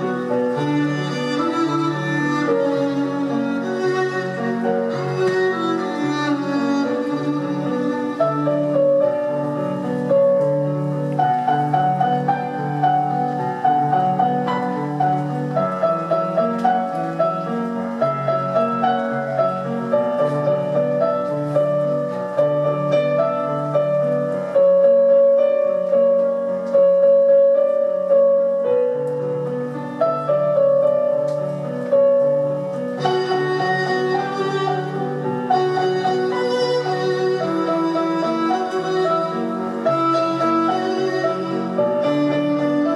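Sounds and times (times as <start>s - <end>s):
slow piano music: 0.0s - 42.9s.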